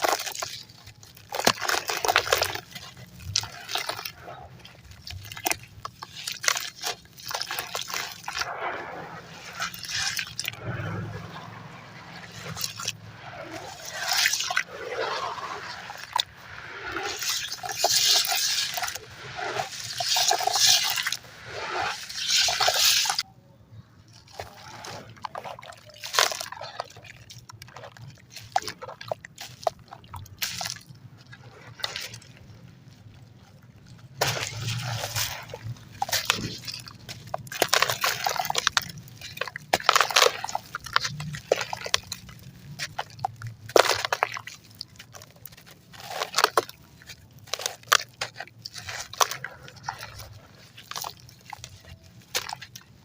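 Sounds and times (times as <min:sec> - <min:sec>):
wet concrete crumbling and crunching: 0:00.0 - 0:23.3, 0:24.0 - 0:53.0.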